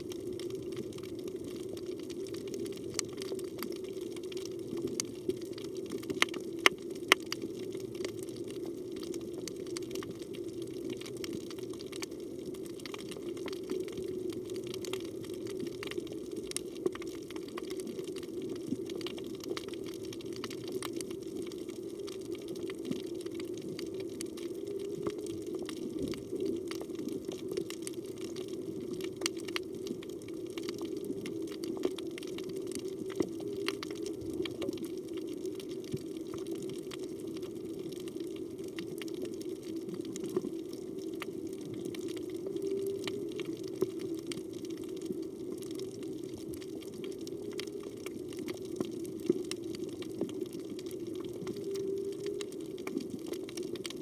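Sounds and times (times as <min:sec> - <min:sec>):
underwater clicks and crackles: 0:00.0 - 0:54.0
underwater low rushing: 0:00.0 - 0:54.0.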